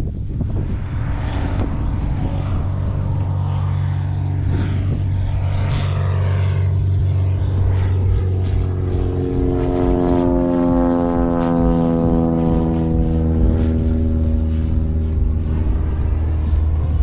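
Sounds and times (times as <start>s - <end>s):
higher-pitched hum: 0.0s - 17.0s
propeller airplane engine drone: 0.0s - 17.0s.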